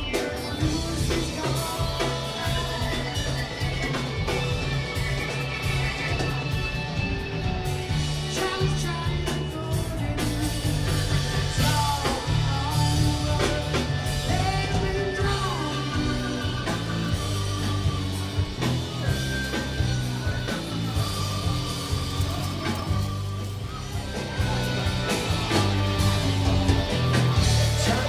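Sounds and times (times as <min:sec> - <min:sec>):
rock music with singer: 0:00.0 - 0:28.0.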